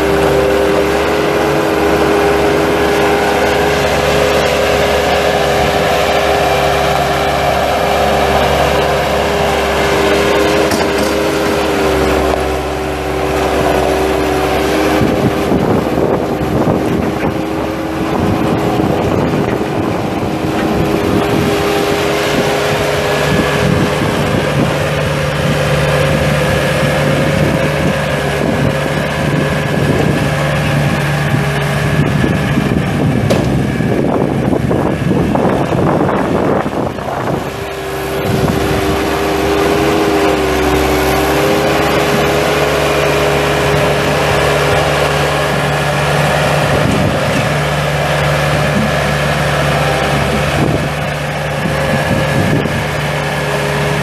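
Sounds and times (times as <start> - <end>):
diesel engine running: 0.0 - 54.0
wind on microphone: 0.0 - 54.0.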